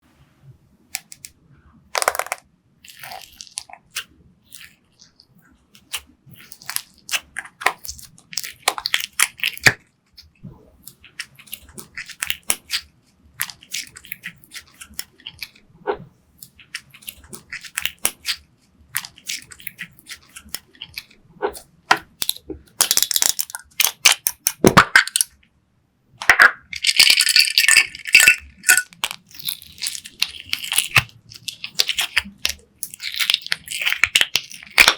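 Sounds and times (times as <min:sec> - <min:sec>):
slime crackling and popping: 0:01.9 - 0:05.1, 0:05.8 - 0:15.6, 0:16.4 - 0:25.4, 0:26.6 - 0:34.9.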